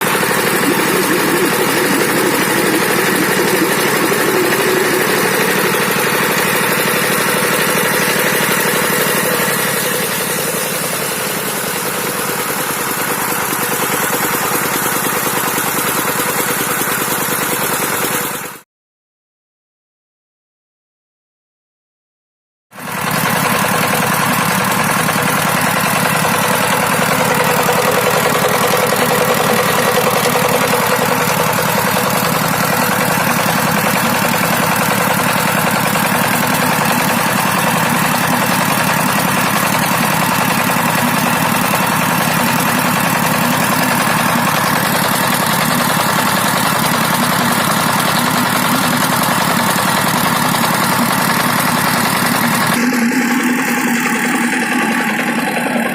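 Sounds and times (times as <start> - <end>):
diesel engine running: 0.0 - 18.6, 22.8 - 55.9.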